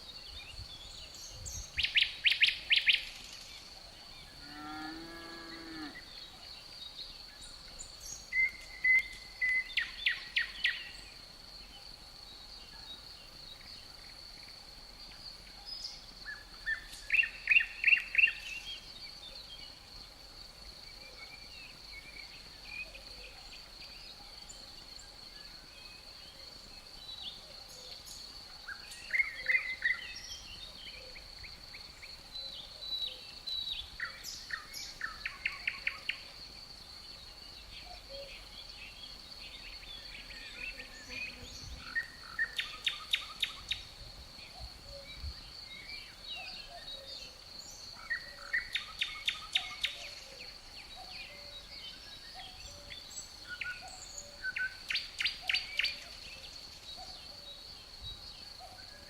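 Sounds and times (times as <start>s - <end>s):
cricket trill: 0.0s - 59.0s
songbirds singing: 0.0s - 59.0s.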